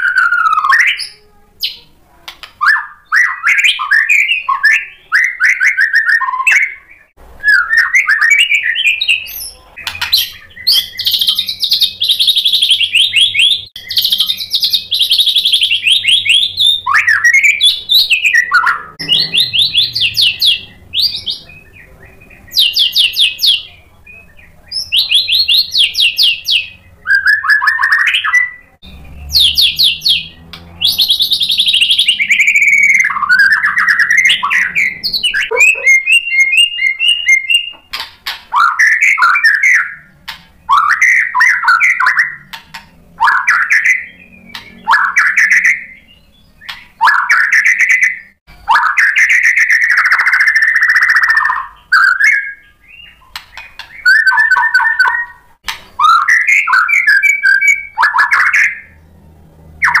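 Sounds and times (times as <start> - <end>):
bird singing whistles and trills: 2.6 - 42.6, 43.2 - 59.0, 59.8 - 60.0.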